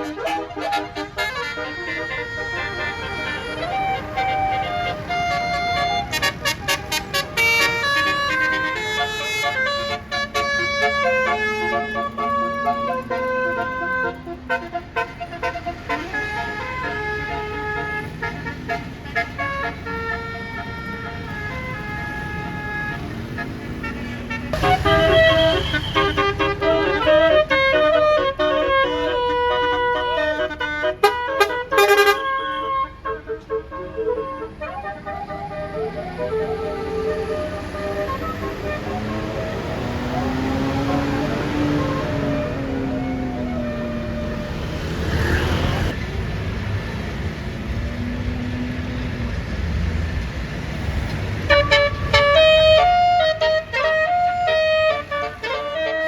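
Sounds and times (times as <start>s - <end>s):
bus horn playing a tune: 0.0s - 46.0s, 50.7s - 56.0s
traffic and engine rumble: 0.0s - 56.0s.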